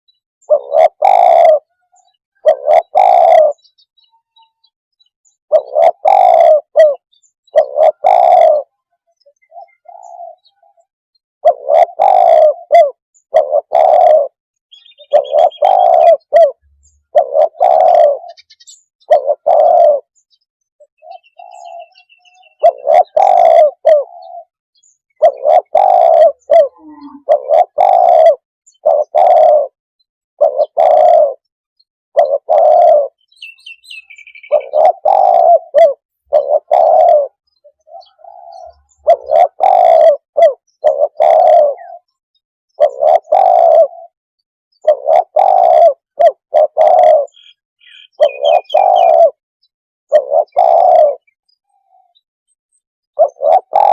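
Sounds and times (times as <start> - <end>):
dove cooing: 0.4 - 3.8, 5.5 - 20.2, 20.8 - 29.8, 30.4 - 31.5, 32.2 - 49.4, 50.1 - 52.2, 53.1 - 53.9.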